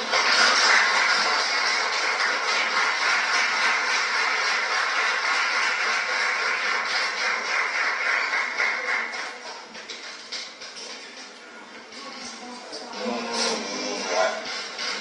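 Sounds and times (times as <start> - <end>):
crowd commotion through tv speaker: 0.0 - 15.0.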